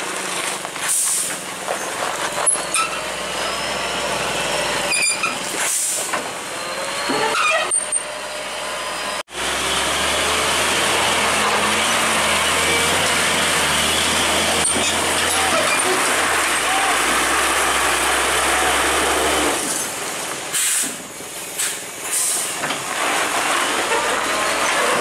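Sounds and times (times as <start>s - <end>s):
truck diesel engine under load: 0.0s - 25.0s.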